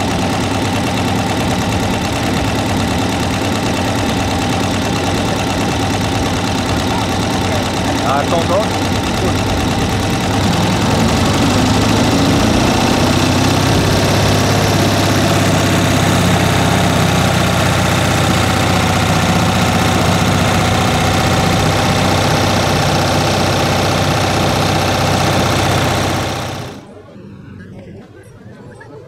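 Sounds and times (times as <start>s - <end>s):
motorbike engine running: 0.0s - 26.9s.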